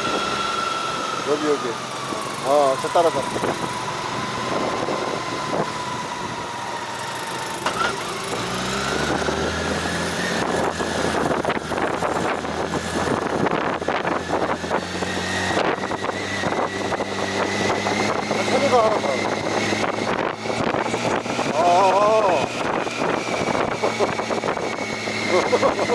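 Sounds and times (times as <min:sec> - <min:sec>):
motorcycle engine running: 0:00.0 - 0:25.9
wind or road noise: 0:00.0 - 0:25.9.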